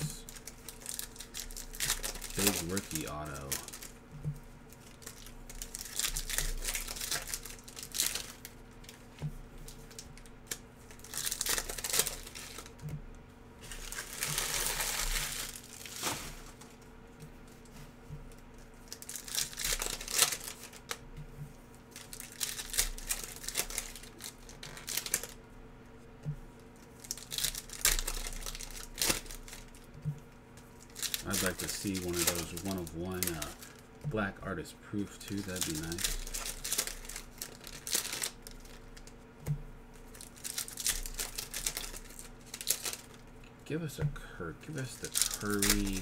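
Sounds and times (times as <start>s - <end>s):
card pack wrappers crinkling: 0.0s - 4.0s, 4.7s - 12.8s, 13.6s - 16.9s, 18.3s - 21.0s, 21.8s - 25.4s, 26.6s - 39.2s, 39.9s - 46.0s.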